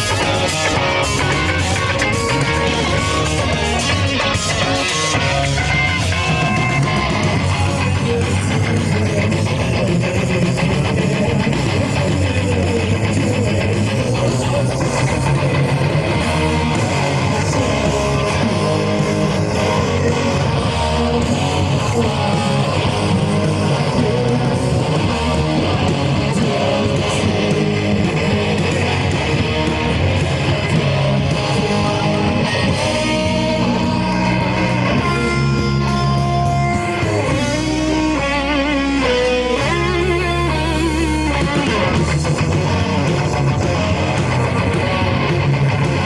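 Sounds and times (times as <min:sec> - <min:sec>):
bass guitar: 0:00.0 - 0:46.0
drums: 0:00.0 - 0:46.0
electric guitars strummed: 0:00.0 - 0:46.0.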